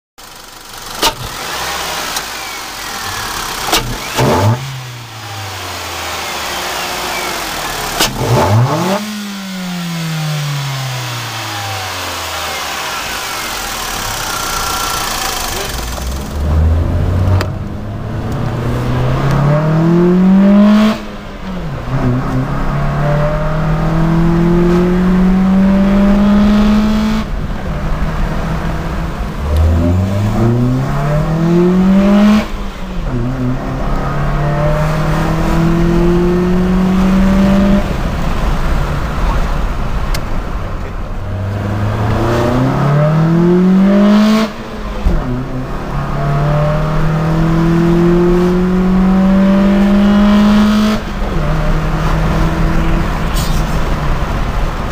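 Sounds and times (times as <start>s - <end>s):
car engine accelerating hard: 0.2s - 54.9s.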